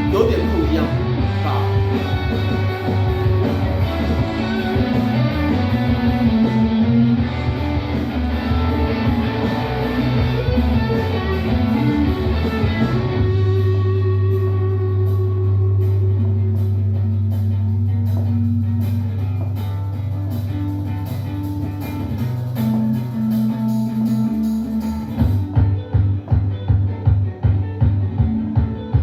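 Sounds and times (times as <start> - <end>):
instrumental guitar music with bass: 0.0 - 29.0.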